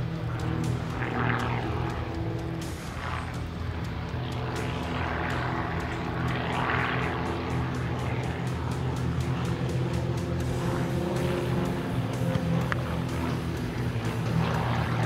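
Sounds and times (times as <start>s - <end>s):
propeller plane engine: 0.0s - 15.0s.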